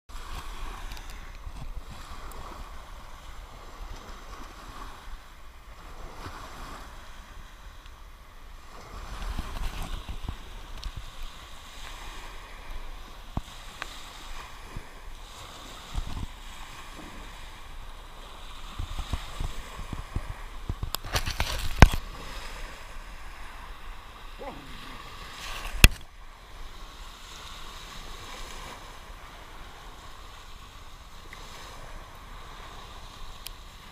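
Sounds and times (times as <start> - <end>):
small waves washing on sand: 0.1 - 33.9
wind rumbling on microphone: 0.1 - 33.9.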